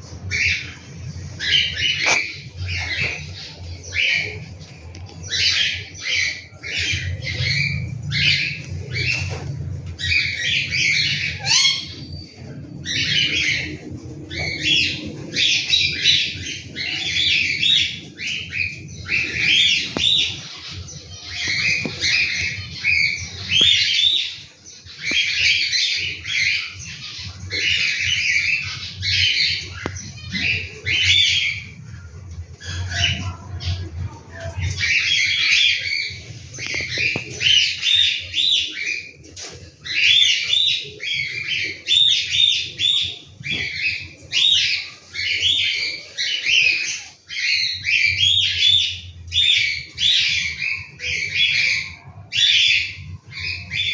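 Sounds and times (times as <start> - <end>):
cockatiel chicks calling: 0.1 - 53.9.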